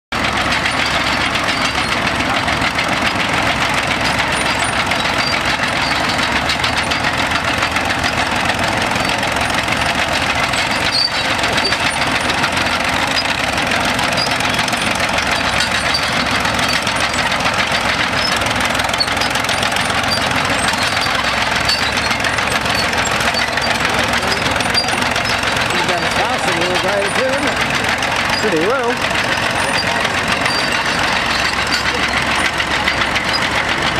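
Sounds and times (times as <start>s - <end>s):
diesel tractor engine knocking: 0.1s - 33.9s.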